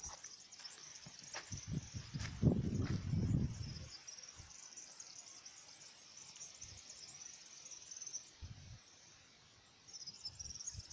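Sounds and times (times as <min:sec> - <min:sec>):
crickets chirring: 0:00.0 - 0:10.9.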